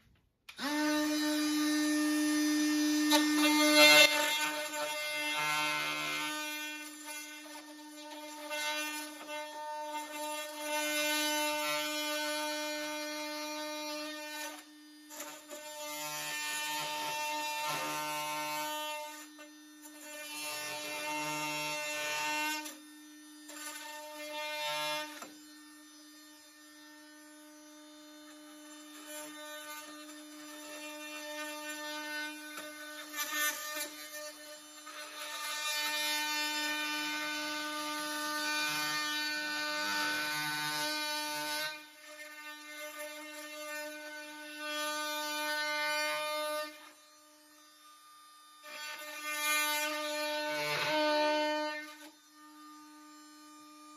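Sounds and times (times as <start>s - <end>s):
oscillating multi-tool cutting wood: 0.0s - 53.9s.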